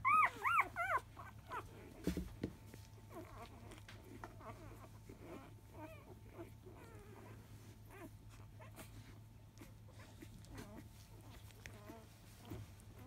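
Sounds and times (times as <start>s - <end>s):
puppies squeaking and grunting: 0.0s - 13.0s.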